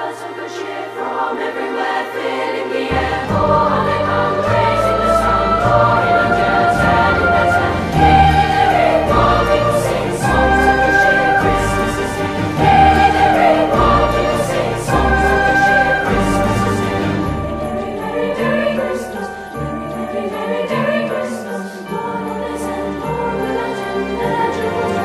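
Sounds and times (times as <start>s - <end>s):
choir-like singing: 0.0s - 25.0s.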